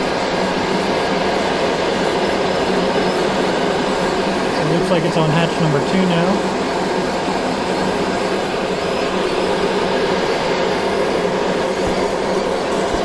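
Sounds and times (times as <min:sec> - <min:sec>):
laser engraver humming: 0:00.0 - 0:13.0.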